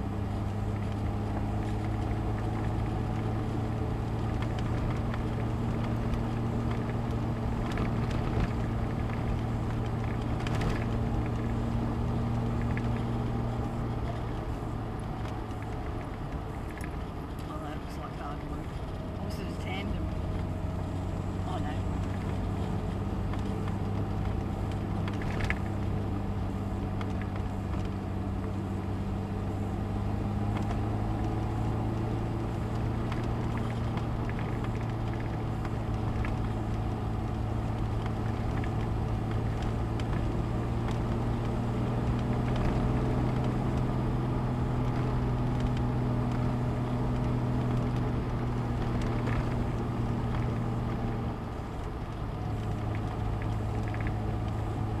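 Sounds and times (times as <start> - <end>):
car engine under load: 0.0 - 55.0.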